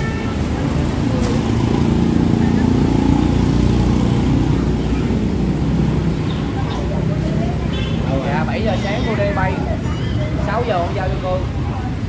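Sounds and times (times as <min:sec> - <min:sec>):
motorbike engines: 0:00.0 - 0:12.0
street traffic: 0:00.0 - 0:12.0
vehicle passing close by: 0:00.5 - 0:10.5.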